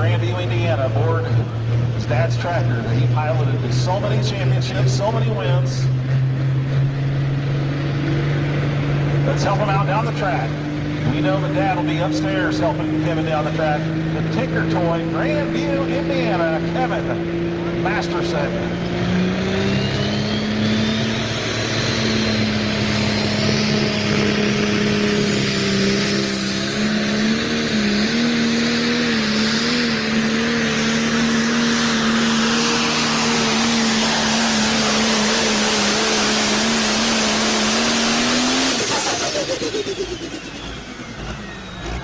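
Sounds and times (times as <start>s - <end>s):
engine shutting down: 0.0s - 42.0s
tractor engine at full power: 0.0s - 42.0s.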